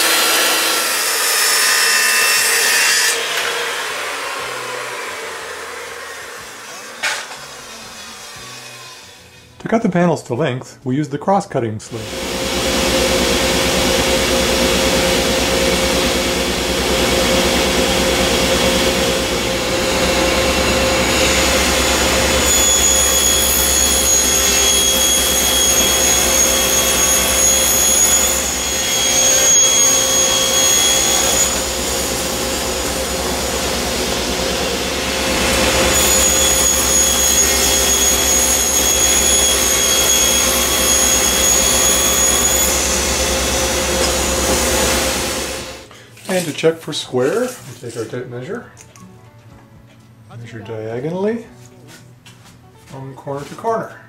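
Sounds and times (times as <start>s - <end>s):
dust collector running: 0.0s - 9.1s, 12.0s - 46.6s
table saw running: 0.0s - 9.4s, 12.0s - 45.9s
high whine of saw blade cutting: 0.0s - 9.6s, 12.0s - 46.5s.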